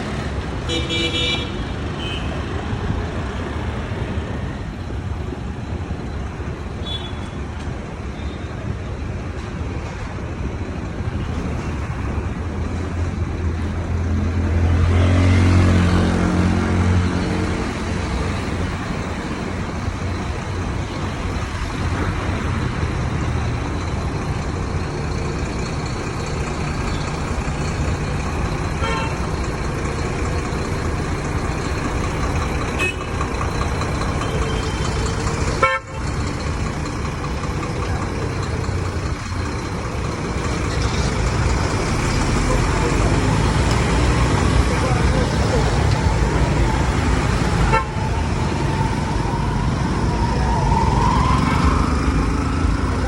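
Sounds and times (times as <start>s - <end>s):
bus diesel engine humming: 0.0s - 53.0s.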